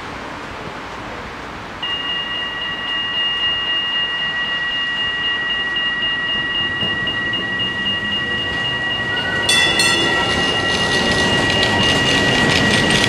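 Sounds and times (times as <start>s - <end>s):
level crossing warning bell: 1.8s - 13.0s.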